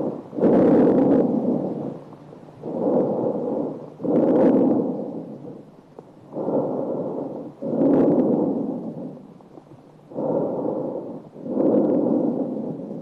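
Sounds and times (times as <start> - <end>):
breath sounds through stethoscope: 0.0 - 13.0.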